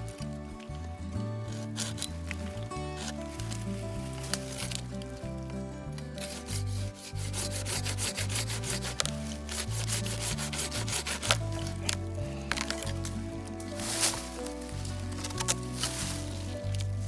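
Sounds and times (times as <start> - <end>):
background music: 0.0 - 17.0
hand saw cutting wood: 1.4 - 5.2, 6.1 - 17.0.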